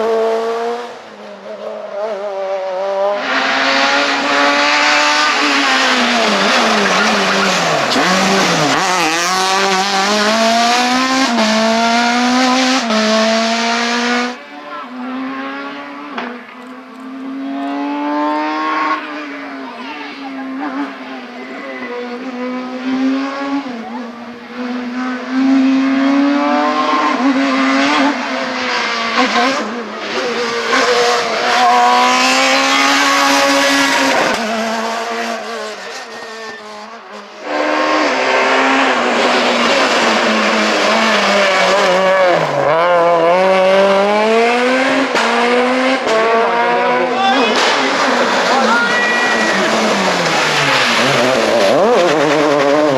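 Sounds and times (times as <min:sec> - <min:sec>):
rally car engines at full throttle: 0:00.0 - 0:52.9.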